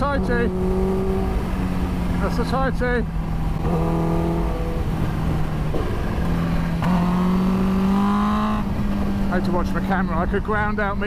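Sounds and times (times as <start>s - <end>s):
motorcycle engine accelerating: 0.0s - 10.4s.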